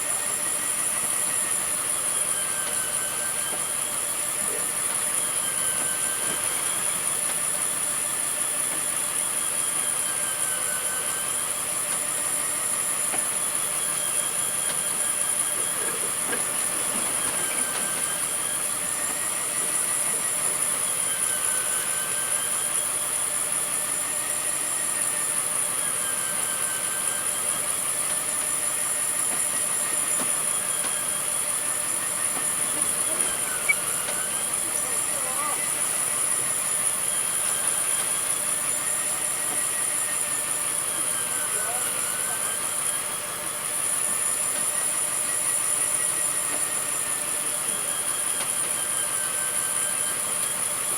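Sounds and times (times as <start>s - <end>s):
steady high whistle: 0.0s - 50.9s
wavering high whine: 0.0s - 50.9s.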